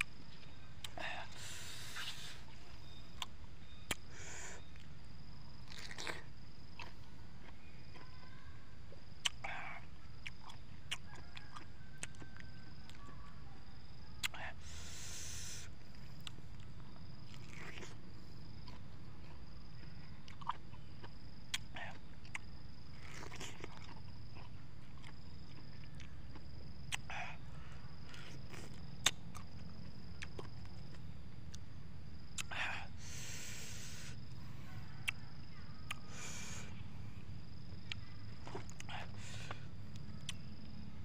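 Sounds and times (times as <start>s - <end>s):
person chewing juicy fruit: 0.0s - 8.4s, 9.0s - 13.1s, 13.7s - 40.9s
low background hum: 0.0s - 41.0s.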